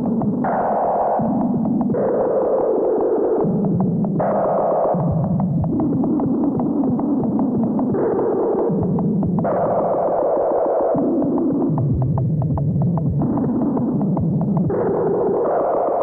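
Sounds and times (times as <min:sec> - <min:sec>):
layered synthesizer tones: 0:00.0 - 0:16.0
ticking pulse: 0:00.0 - 0:16.0.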